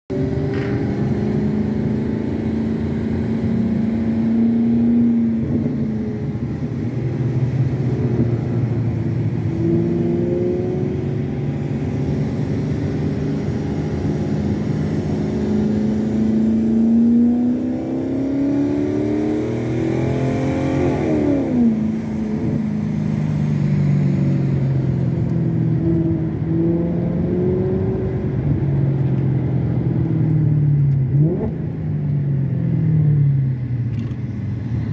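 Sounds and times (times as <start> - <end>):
car engine while driving: 0.1 - 34.9
road and wind noise: 0.1 - 34.9.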